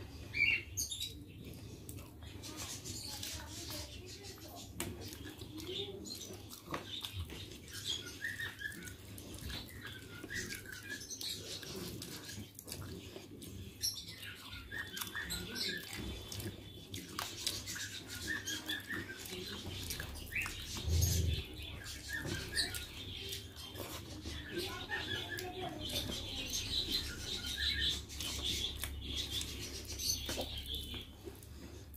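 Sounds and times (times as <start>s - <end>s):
wet chewing and lip smacks: 0.3s - 3.8s, 4.4s - 31.9s.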